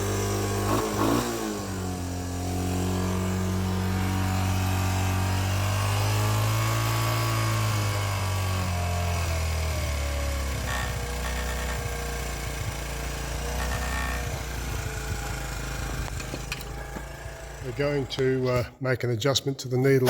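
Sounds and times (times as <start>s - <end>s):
motorcycle engine idling: 0.0s - 18.7s.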